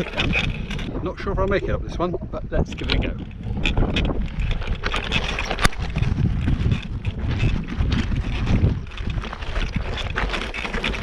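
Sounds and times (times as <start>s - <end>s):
bike tyres crunching over gravel: 0.0s - 2.0s, 2.6s - 11.0s
wind buffeting microphone: 0.0s - 11.0s.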